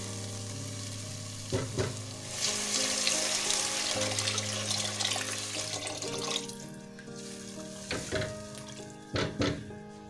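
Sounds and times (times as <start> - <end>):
water pouring into a pot: 0.0 - 8.9
background music: 0.0 - 10.0.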